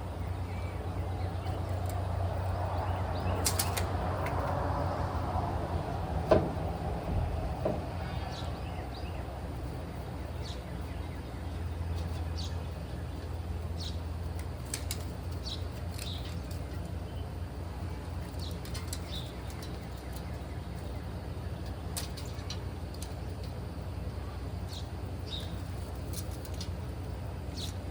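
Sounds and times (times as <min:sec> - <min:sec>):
birds chirping: 0:00.0 - 0:27.9
low mechanical hum: 0:00.0 - 0:27.9.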